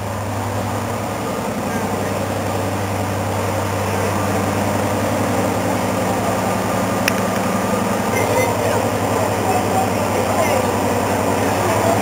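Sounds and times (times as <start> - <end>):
diesel locomotive engine humming: 0.0 - 12.0.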